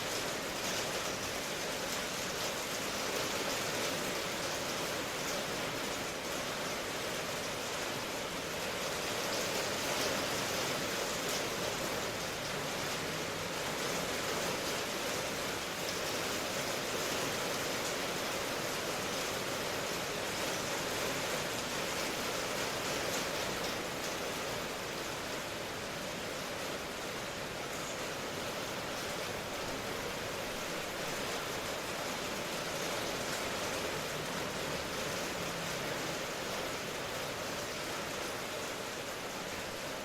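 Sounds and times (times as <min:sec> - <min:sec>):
rain hiss: 0:00.0 - 0:40.0.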